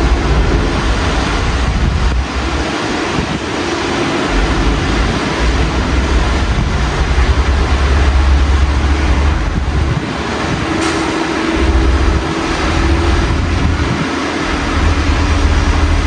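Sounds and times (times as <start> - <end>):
low rumble: 0.0 - 16.0
steady rain hiss: 0.0 - 16.0.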